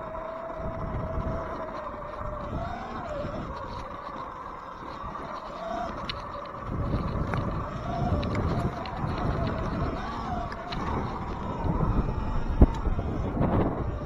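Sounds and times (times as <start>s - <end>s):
electric motor whine: 0.0s - 14.0s
low rumble: 0.0s - 14.0s.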